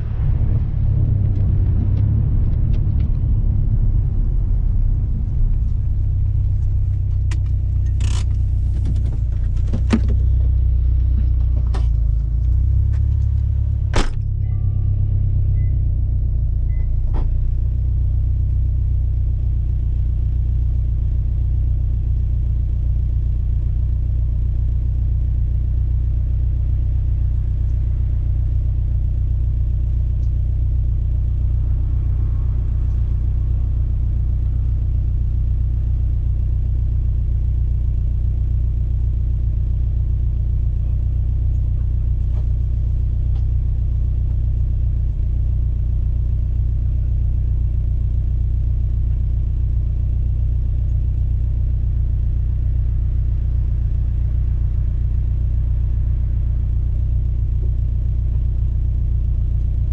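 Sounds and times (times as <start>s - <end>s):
car engine exhaust rumble: 0.0s - 59.9s.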